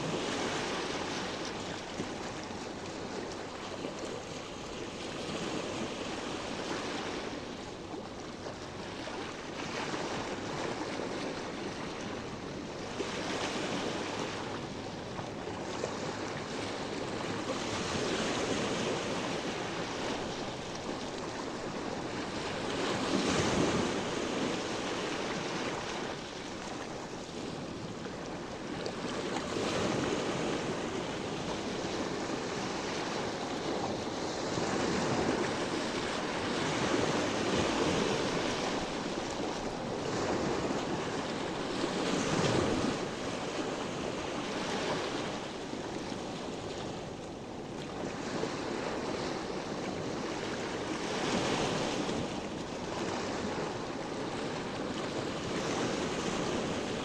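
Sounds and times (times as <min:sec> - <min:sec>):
waves washing onto shore: 0:00.0 - 0:57.0
wind on microphone: 0:00.0 - 0:57.0.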